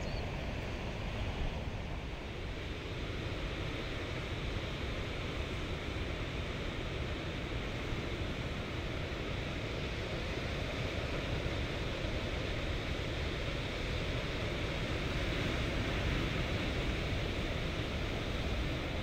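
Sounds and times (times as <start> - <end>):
ocean surf on a beach: 0.0 - 19.0.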